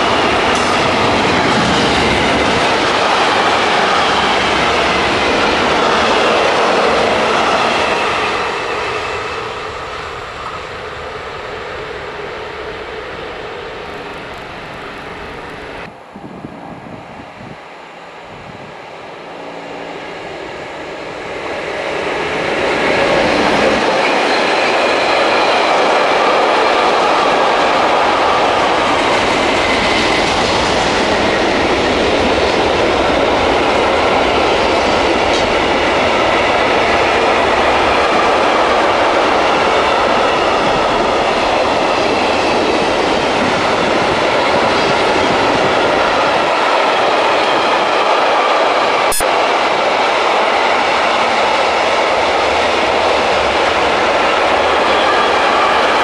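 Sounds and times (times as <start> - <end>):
electric locomotive approaching: 0.0 - 56.0.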